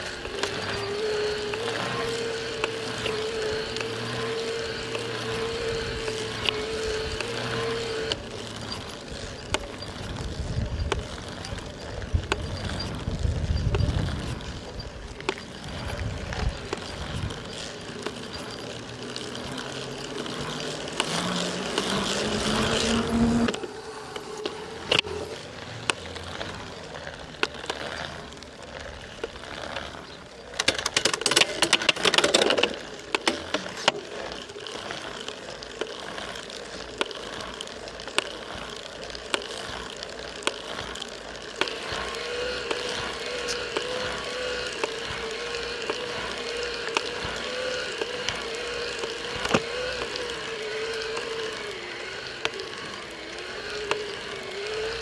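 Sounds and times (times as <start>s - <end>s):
clicking and rattling: 0.0s - 55.0s
e-bike motor whine: 0.0s - 55.0s.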